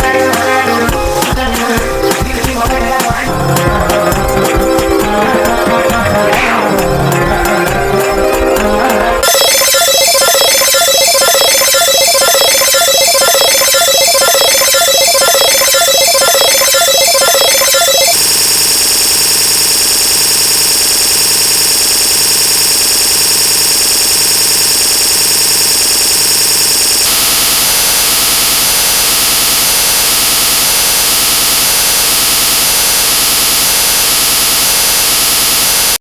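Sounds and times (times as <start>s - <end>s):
harsh electronic buzz: 0.0s - 36.0s.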